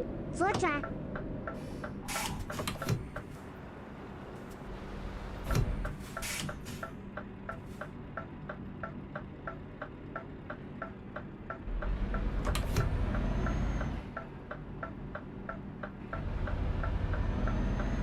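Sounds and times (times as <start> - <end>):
engine and road hum: 0.0 - 18.0
turn signal ticking: 0.6 - 2.0, 2.7 - 3.3, 4.7 - 18.0.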